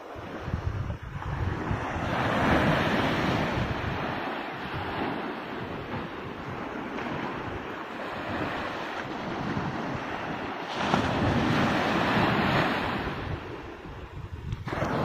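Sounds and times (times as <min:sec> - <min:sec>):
small waves breaking on sand: 0:00.0 - 0:15.0
wind on microphone: 0:00.0 - 0:15.0.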